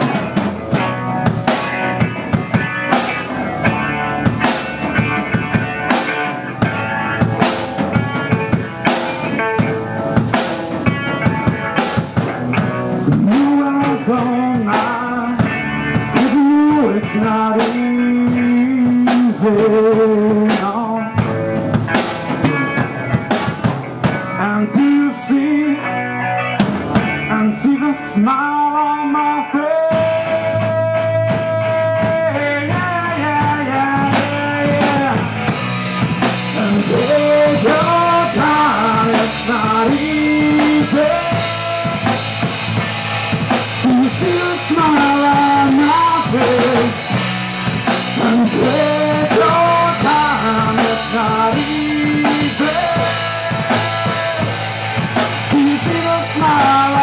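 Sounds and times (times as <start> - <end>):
man singing: 0.0 - 2.6, 10.9 - 57.0
drum kit beat: 0.0 - 57.0
electric guitar: 0.0 - 57.0.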